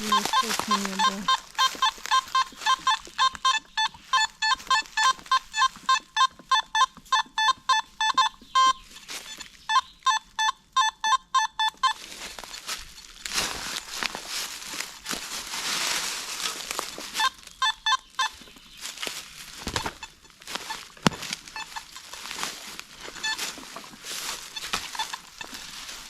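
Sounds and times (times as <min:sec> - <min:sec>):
rustling crunching footsteps: 0:00.0 - 0:06.4, 0:08.3 - 0:10.0, 0:11.7 - 0:26.0
metal detector beeps: 0:00.0 - 0:26.0.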